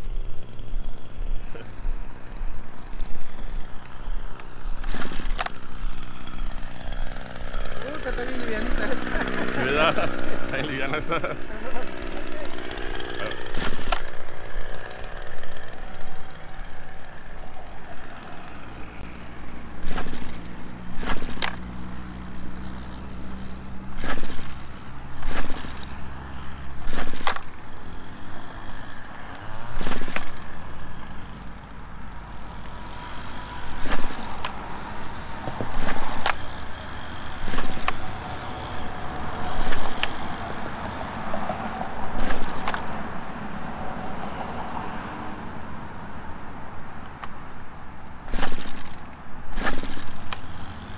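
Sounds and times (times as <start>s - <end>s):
string trimmer engine revving: 0.0s - 43.5s, 48.2s - 50.9s.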